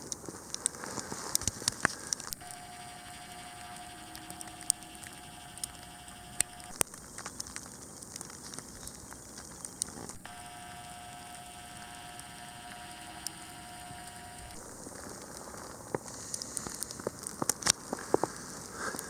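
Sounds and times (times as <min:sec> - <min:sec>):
faint steady hum: 0:00.0 - 0:19.0
snowflakes ticking: 0:00.0 - 0:19.0
steady hiss of snowfall: 0:00.0 - 0:19.0.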